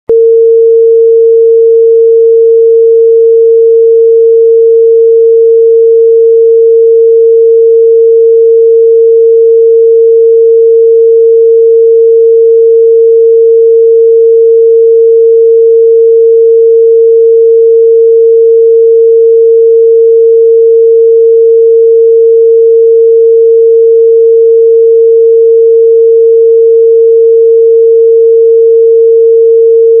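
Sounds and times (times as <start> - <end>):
sine-wave test tone: 0.0 - 30.0.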